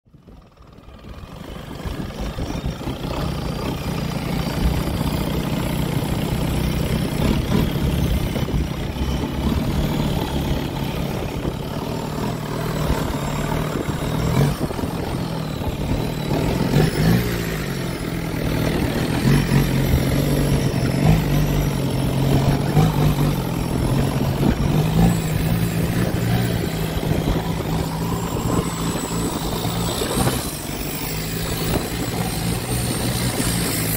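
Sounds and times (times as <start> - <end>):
wind: 0.0 - 33.9
boat engine droning: 0.1 - 33.9.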